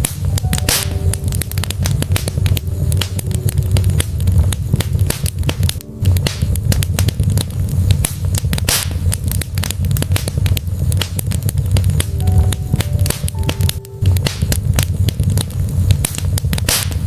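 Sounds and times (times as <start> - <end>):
fire hiss: 0.0 - 17.0
wood fire crackling: 0.0 - 17.0.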